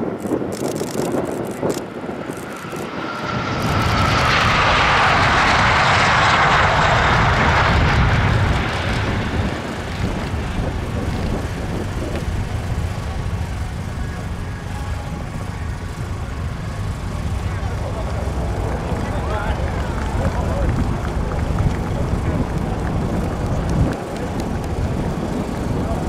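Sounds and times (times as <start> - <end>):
jets flying past: 0.0 - 26.0.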